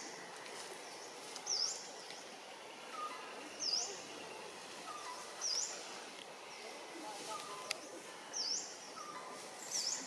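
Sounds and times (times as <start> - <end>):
bird chirping: 0.0 - 10.0
outdoor background noise: 0.0 - 10.0.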